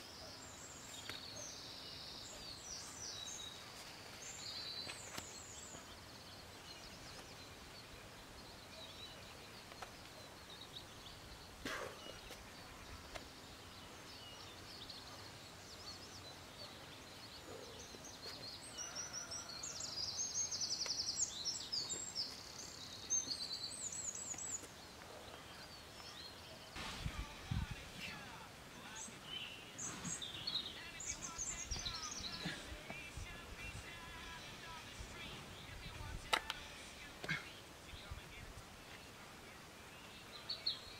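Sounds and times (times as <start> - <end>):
birds singing: 0.0 - 40.9.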